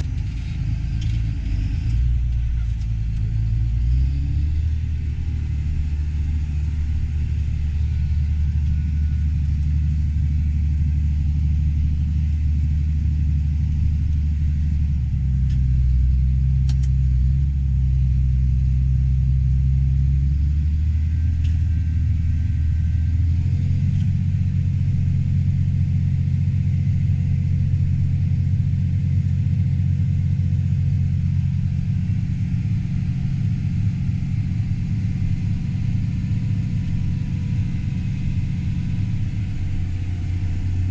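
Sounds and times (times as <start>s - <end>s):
diesel engine low rumble: 0.0s - 40.9s.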